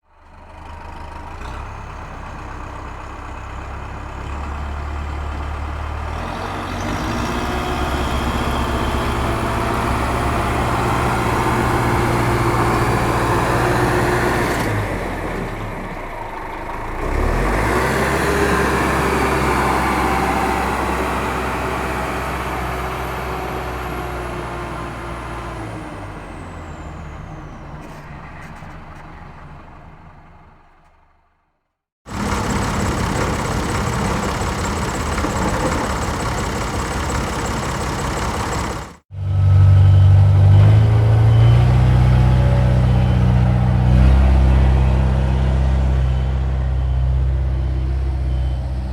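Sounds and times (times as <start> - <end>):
tractor engine: 0.0 - 31.4, 32.1 - 48.9.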